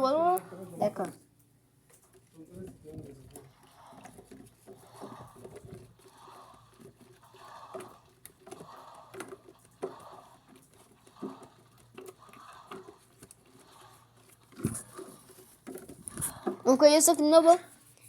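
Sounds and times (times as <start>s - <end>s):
washing machine water sloshing: 2.1s - 17.3s.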